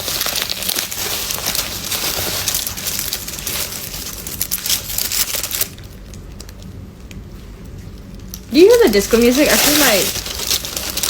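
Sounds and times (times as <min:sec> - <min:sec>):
gift wrapping crinkling: 0:00.0 - 0:06.8, 0:07.4 - 0:11.0.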